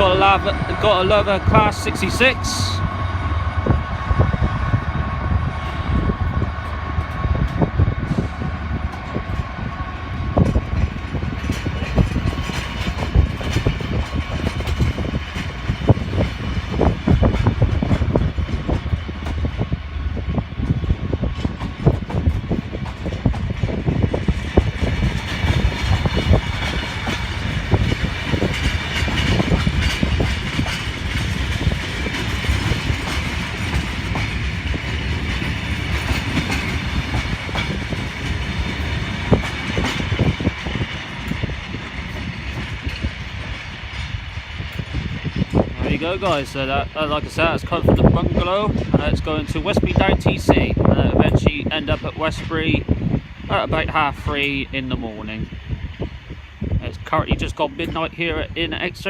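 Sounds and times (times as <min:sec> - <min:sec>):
freight train rumbling: 0:00.0 - 0:59.0
wheels clattering over rail joints: 0:05.6 - 0:59.0.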